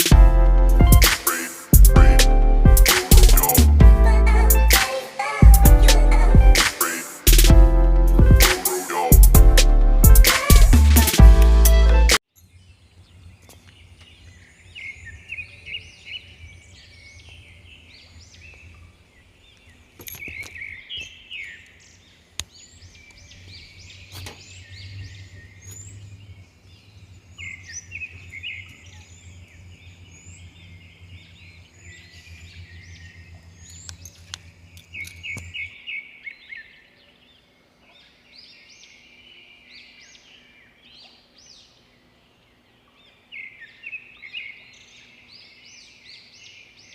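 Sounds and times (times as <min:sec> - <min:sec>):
birds chirping and singing: 0:00.0 - 0:46.9.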